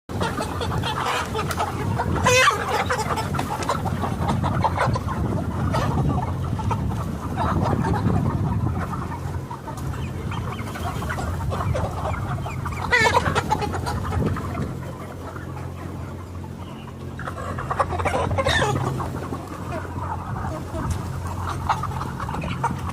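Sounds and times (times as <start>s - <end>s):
chicken squawk: 0.1s - 22.9s
chickens clucking: 0.1s - 22.9s.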